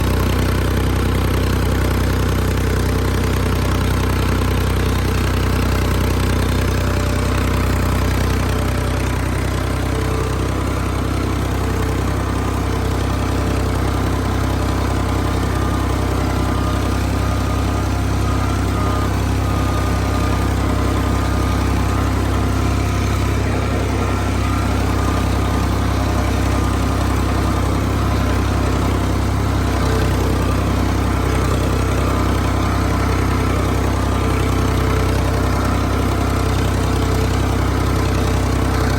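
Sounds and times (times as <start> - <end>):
machine engine droning: 0.0 - 38.9.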